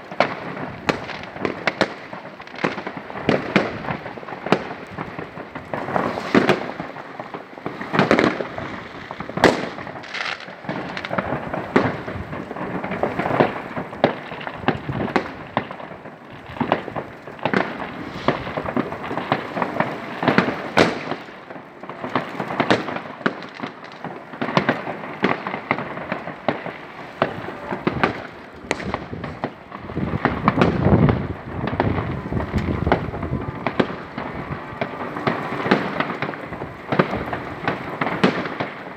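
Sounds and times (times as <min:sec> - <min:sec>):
distant explosions rumbling: 0:00.0 - 0:38.9
fireworks bangs and crackles: 0:00.0 - 0:38.9.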